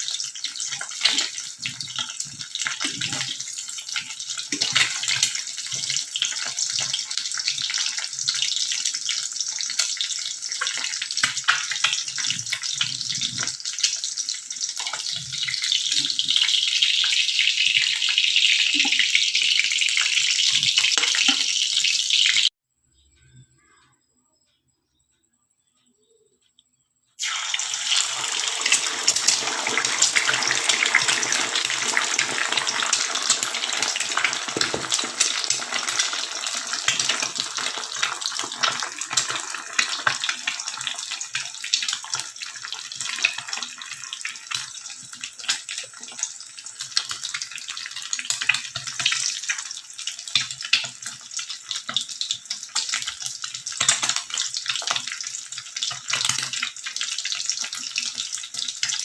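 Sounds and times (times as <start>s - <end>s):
food sizzling in hot oil: 0.0s - 22.6s, 27.2s - 59.0s.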